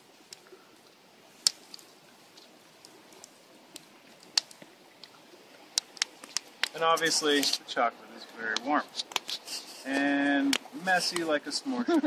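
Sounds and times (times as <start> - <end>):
campfire crackling and popping: 0.0 - 12.0
faint steady hiss: 0.0 - 12.0.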